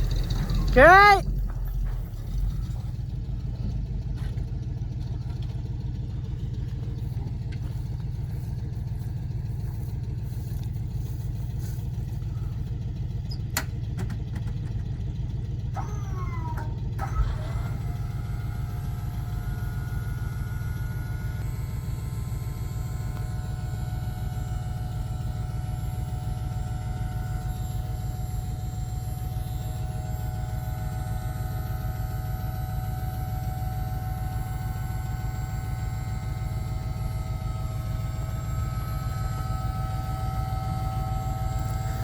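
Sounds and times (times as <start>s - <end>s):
engine droning: 0.0s - 42.0s.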